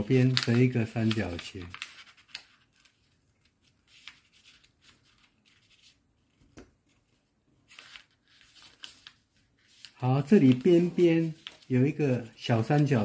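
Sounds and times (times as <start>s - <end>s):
paper rustling and folding: 0.0s - 13.0s.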